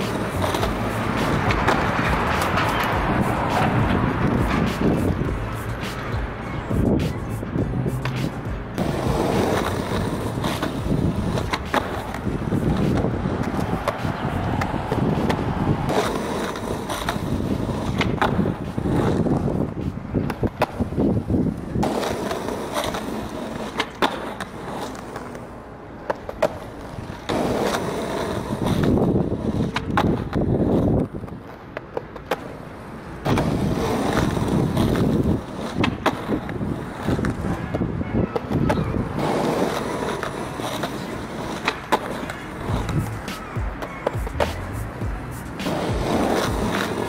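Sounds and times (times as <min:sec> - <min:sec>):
skateboard clacking: 0:00.0 - 0:47.0
skateboard wheels rolling on asphalt: 0:00.0 - 0:47.0.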